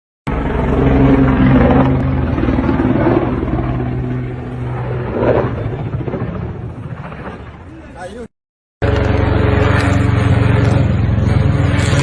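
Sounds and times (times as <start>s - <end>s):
turboprop engines droning: 0.3s - 12.0s.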